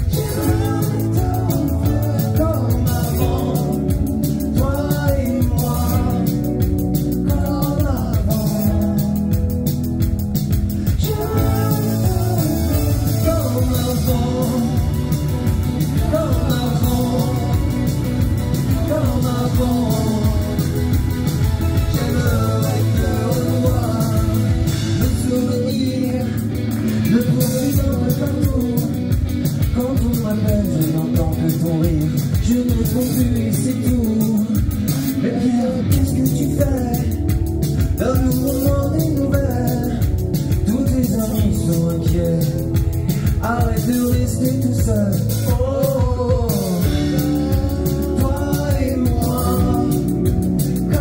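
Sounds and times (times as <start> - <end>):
man singing into microphone: 0.0 - 9.6, 10.8 - 37.4, 38.0 - 51.0
electric guitar: 0.0 - 51.0
rock band playing live: 0.0 - 51.0.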